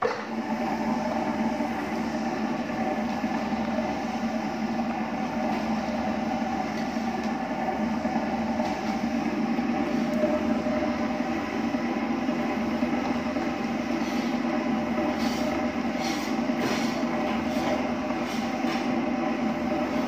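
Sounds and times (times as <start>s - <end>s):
powder mixer machine drone: 0.0s - 20.0s.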